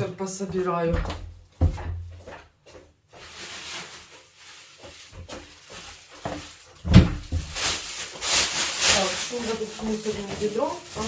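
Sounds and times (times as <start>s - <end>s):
rustling handling noises: 0.0s - 11.0s.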